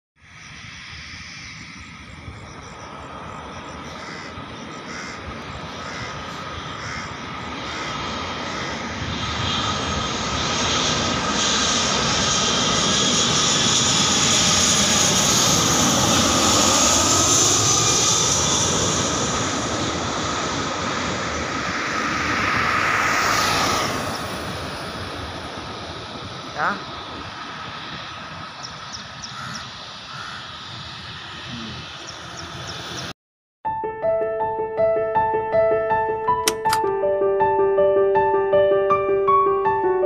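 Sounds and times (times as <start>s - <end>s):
jet engine roar with whine: 0.2s - 33.2s.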